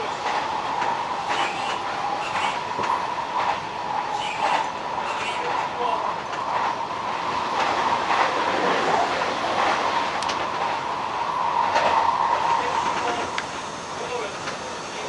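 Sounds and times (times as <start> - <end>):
sharp clicks from rails: 0.0 - 14.7
electric train rolling noise: 0.0 - 15.0.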